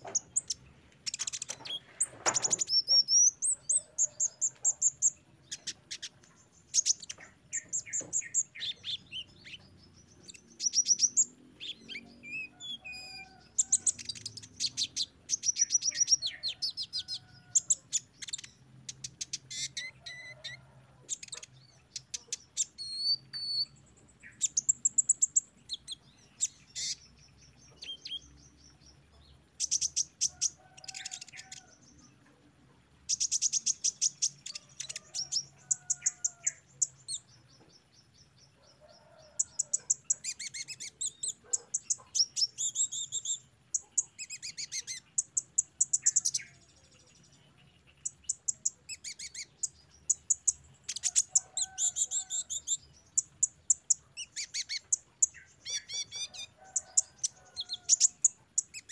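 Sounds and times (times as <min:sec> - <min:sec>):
bird singing trills and chirps: 0:00.0 - 0:58.9.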